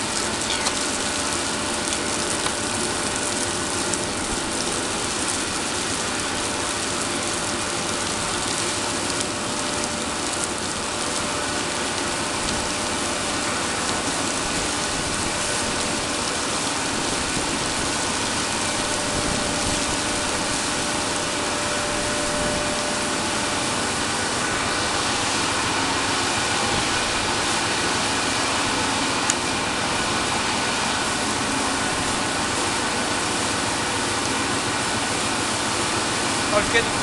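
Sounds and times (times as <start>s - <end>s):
machinery drone and hiss: 0.0s - 37.0s.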